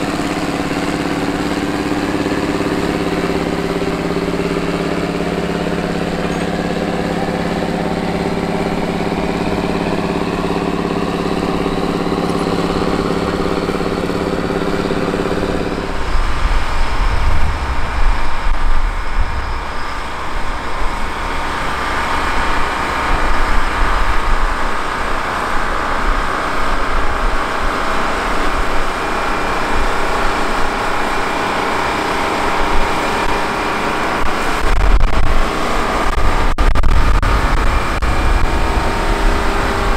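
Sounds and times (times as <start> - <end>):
tractor diesel engine under load: 0.0 - 39.9
two-stroke diesel rumble with whine: 0.0 - 39.9.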